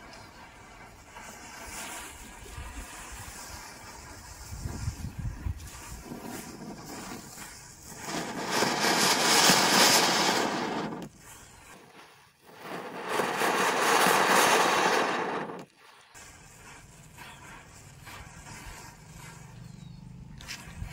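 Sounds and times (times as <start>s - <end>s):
firework spraying sparks hissing: 0.0s - 19.8s.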